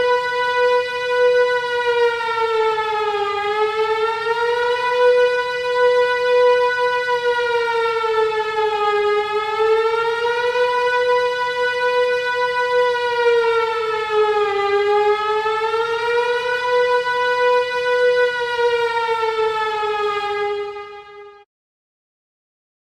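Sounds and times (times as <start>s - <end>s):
buzzy siren-like alarm tone: 0.0s - 21.4s.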